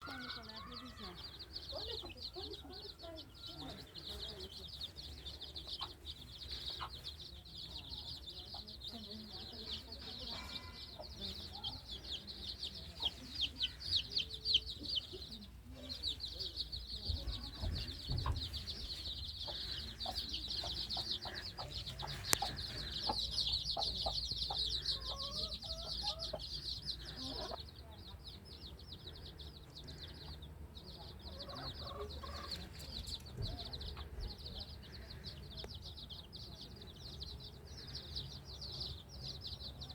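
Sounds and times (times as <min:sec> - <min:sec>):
chicks peeping: 0:00.0 - 0:39.9
hen clucking: 0:00.1 - 0:27.8, 0:28.9 - 0:35.7.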